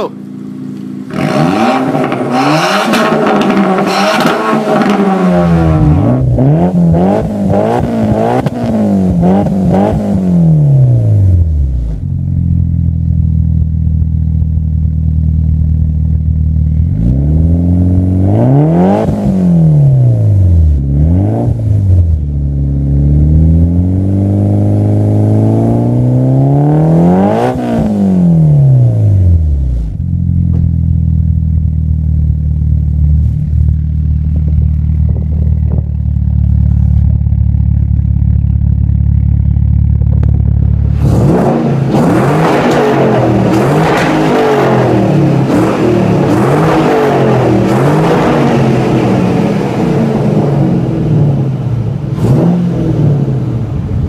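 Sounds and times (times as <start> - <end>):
turbocharged car engine idling and revving: 0.0 - 54.0
car engine revving in blips: 0.2 - 54.0.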